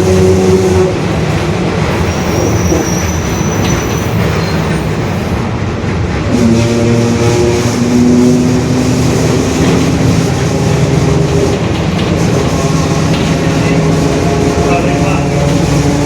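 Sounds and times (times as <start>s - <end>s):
bus differential droning whine: 0.0s - 4.0s, 4.7s - 16.0s.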